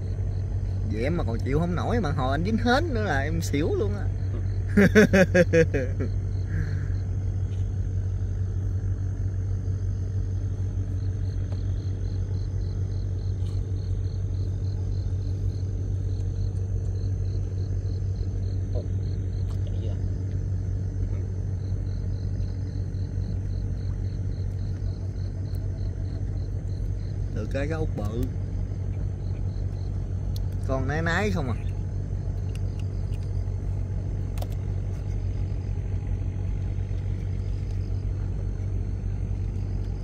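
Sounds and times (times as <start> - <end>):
small boat engine humming: 0.0 - 40.0.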